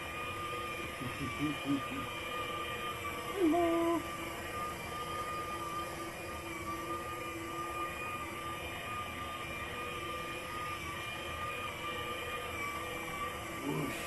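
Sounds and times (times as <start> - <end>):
toy train motor whining: 0.0 - 14.0.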